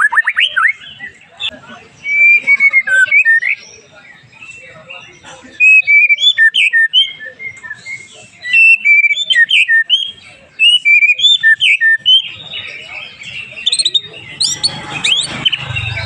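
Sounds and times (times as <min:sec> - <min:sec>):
bird singing whistled phrases: 0:00.0 - 0:01.2, 0:02.0 - 0:03.8, 0:05.6 - 0:16.0.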